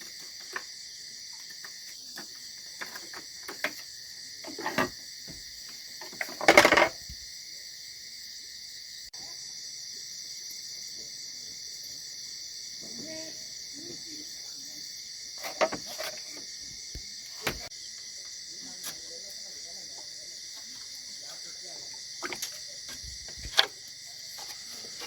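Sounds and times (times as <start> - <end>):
cricket chorus: 0.0 - 25.0.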